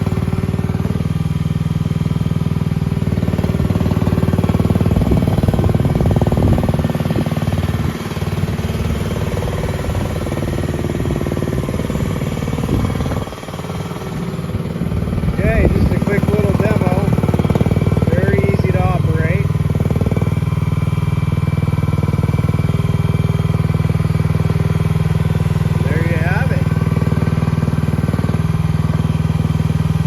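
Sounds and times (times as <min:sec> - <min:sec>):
loader engine running: 0:00.0 - 0:30.0
short engine whines: 0:00.0 - 0:30.0.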